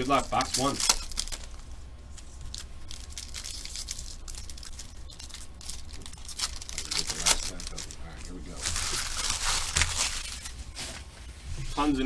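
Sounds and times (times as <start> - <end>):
packaging rustling and crinkling: 0.0 - 12.0
steady low hum: 0.0 - 12.0.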